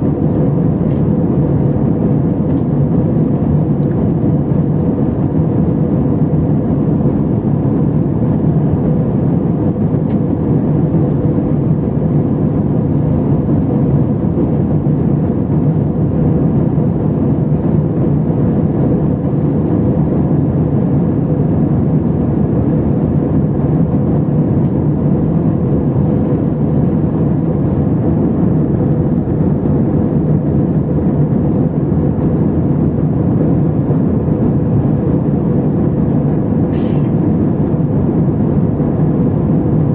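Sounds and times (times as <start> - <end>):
aircraft cabin engine rush: 0.0 - 39.9
faint constant hum: 0.0 - 39.9.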